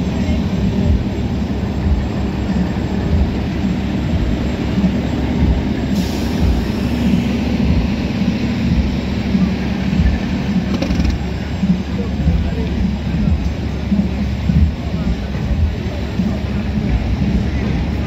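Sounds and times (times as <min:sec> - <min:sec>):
heavy diesel trucks rumbling: 0:00.0 - 0:18.0.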